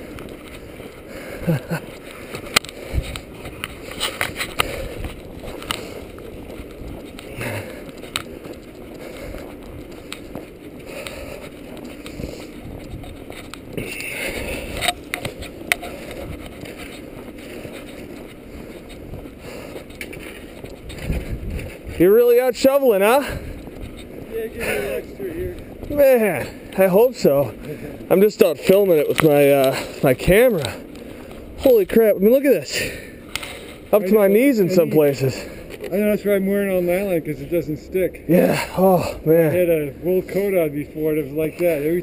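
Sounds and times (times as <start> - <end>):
footsteps in deep snow: 0.0 - 42.0
rustle of movement: 0.0 - 42.0.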